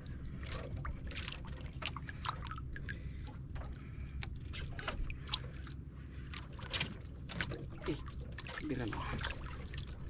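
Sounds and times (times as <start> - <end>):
boat engine rumble: 0.0 - 10.0
water slapping against hull: 0.0 - 10.0.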